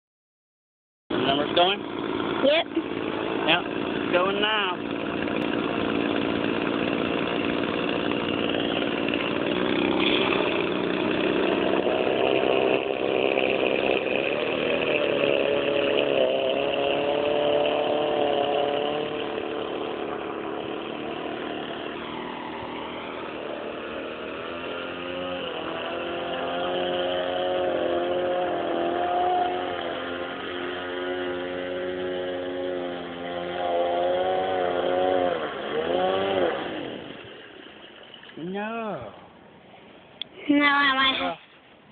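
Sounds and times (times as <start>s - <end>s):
small boat engine running: 1.1s - 41.9s.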